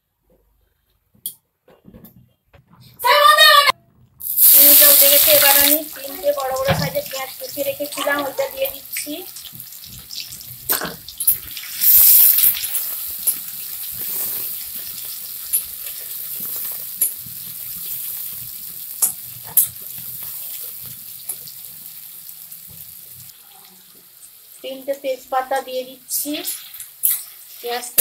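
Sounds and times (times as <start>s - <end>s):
onions sizzling in oil: 4.2s - 28.0s.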